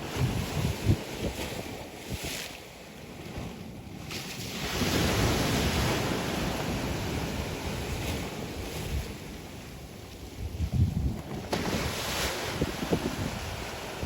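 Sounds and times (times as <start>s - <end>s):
sea waves breaking on shore: 0.0s - 14.0s
wind rumbling on microphone: 0.0s - 14.0s.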